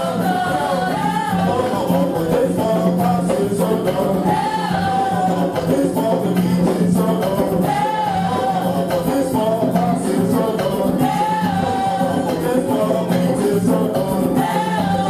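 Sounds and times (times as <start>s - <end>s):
congregation singing gospel: 0.0s - 15.0s
steady bass: 0.0s - 15.0s.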